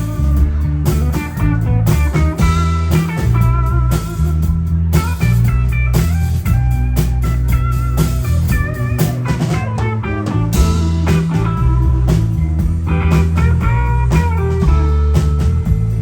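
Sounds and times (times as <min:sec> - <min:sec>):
bass line: 0:00.0 - 0:16.0
drum kit: 0:00.0 - 0:16.0
lead guitar bending notes: 0:01.4 - 0:16.0.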